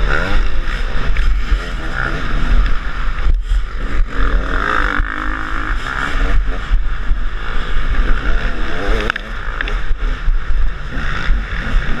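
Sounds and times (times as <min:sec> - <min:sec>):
motorcycle engine revving: 0:00.0 - 0:12.0
wind rumble on microphone: 0:00.0 - 0:12.0.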